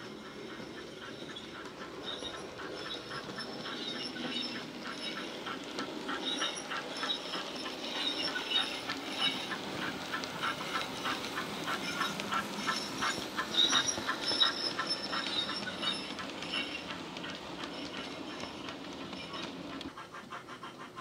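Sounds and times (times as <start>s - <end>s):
model steam locomotive chuffs: 0.0s - 21.0s.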